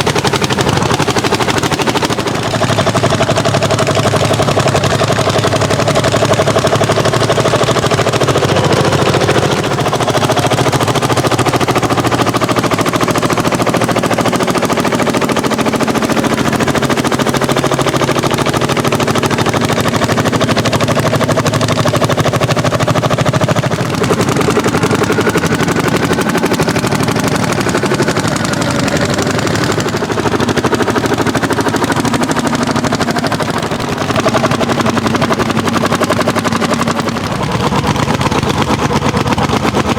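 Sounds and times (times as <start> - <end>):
tractor engine popping exhaust: 0.0 - 39.9.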